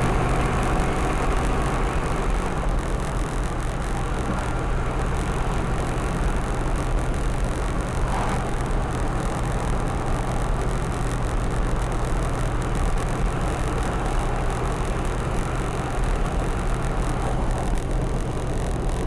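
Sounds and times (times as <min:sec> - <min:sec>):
diesel engine drone in cabin: 0:00.0 - 0:19.0
road and wind noise: 0:00.0 - 0:19.0.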